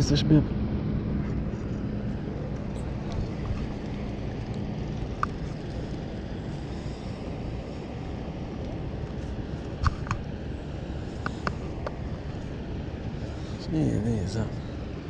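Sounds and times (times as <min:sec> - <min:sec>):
harbour low rumble: 0:00.0 - 0:15.0.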